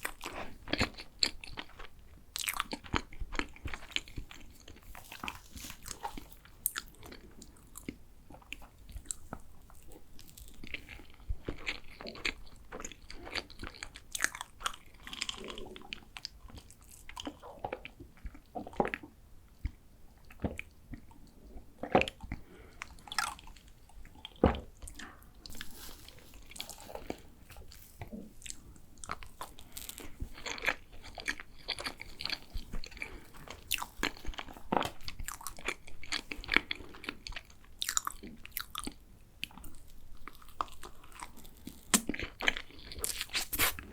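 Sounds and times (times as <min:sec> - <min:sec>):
chewing and biting cake: 0:00.0 - 0:43.9.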